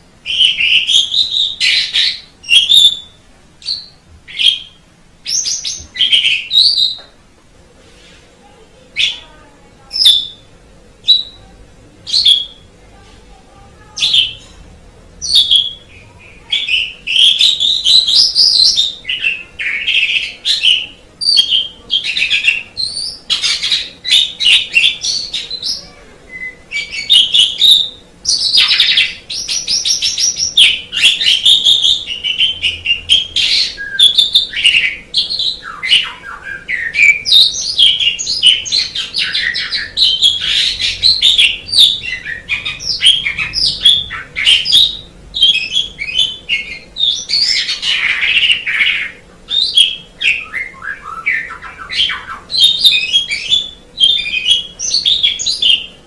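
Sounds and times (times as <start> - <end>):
starling sharp calls: 0.0 - 7.0, 9.0 - 12.8, 13.8 - 56.0
starling whistling and chattering song: 0.0 - 7.1, 9.0 - 12.8, 15.2 - 56.0.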